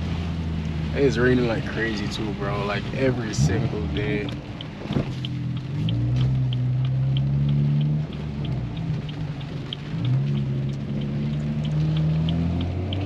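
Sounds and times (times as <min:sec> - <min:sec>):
car engine from inside cabin: 0:00.0 - 0:13.0
low road rumble: 0:00.0 - 0:13.0
light regular ticking: 0:00.6 - 0:13.0.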